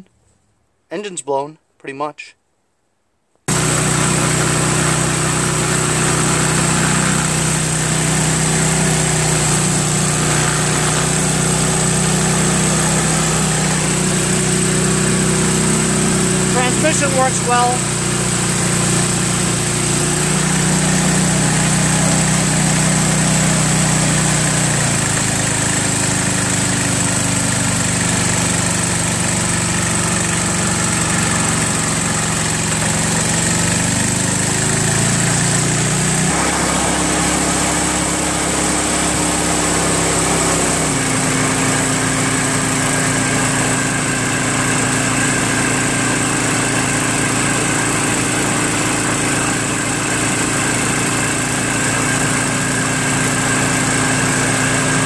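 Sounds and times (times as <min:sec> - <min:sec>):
snowblower engine running: 0:03.5 - 0:55.0.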